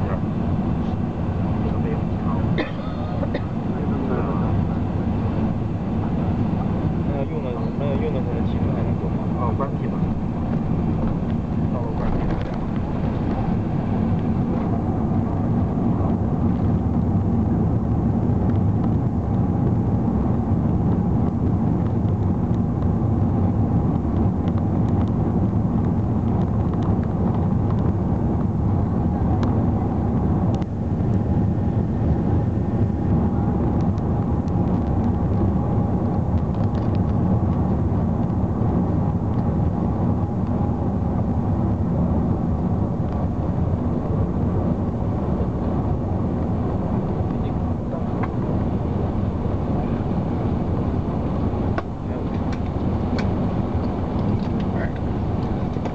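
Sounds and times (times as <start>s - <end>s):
airplane engine and rolling rumble: 0.0s - 55.9s
faint steady whine: 0.0s - 55.9s.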